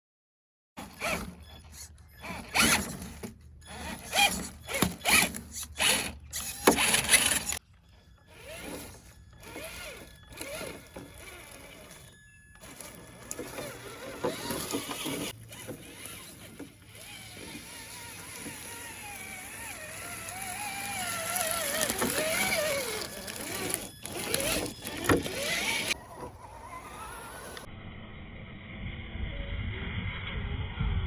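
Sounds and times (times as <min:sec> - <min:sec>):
small electric motor whining: 0:00.8 - 0:27.7.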